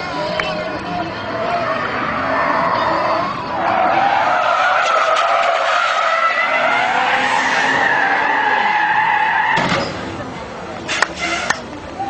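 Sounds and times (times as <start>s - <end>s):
car tyres squealing: 0.1s - 12.0s.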